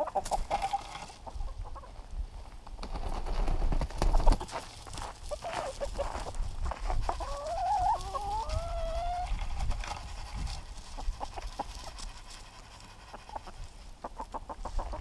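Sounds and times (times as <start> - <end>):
chickens calling: 0.0 - 2.1, 4.0 - 15.0.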